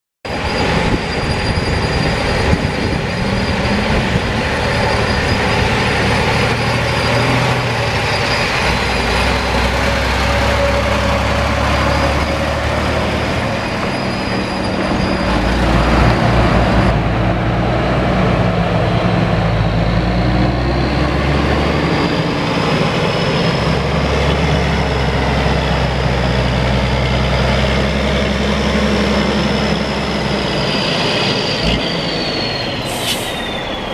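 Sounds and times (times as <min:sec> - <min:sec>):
diesel truck engines under load: 0:00.3 - 0:33.9.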